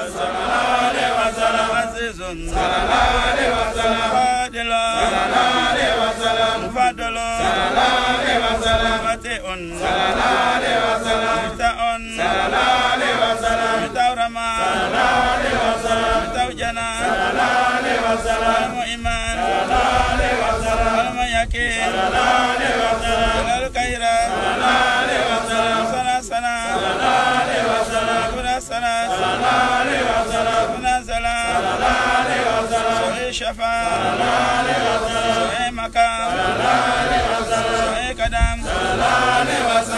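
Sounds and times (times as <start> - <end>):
men chanting: 0.0 - 39.9.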